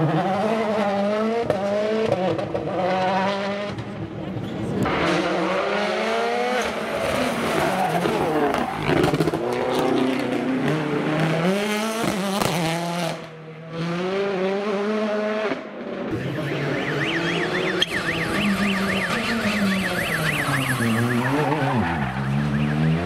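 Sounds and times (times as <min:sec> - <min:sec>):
rally car engine at full throttle: 0:00.0 - 0:23.0.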